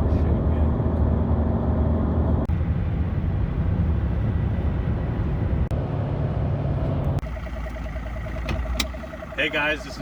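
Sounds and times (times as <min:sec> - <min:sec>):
engine running with low hum: 0:00.0 - 0:10.0.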